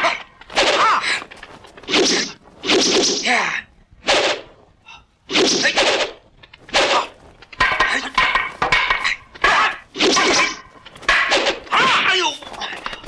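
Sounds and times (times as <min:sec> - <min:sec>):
weapons swinging and clashing: 0:00.0 - 0:13.0.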